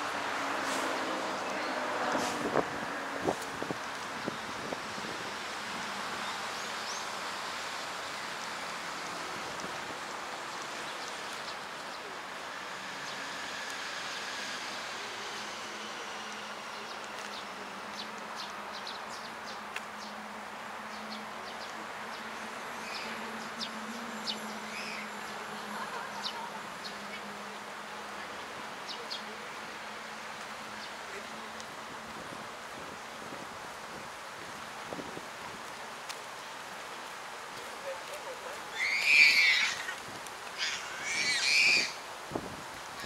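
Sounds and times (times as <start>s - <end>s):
background hiss: 0.0s - 43.0s.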